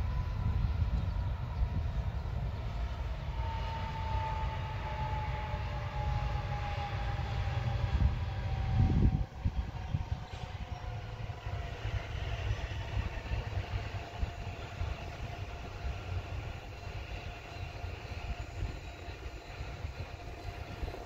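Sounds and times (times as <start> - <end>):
distant high-speed train rushing: 0.0 - 21.0
wind buffeting microphone: 0.0 - 21.0.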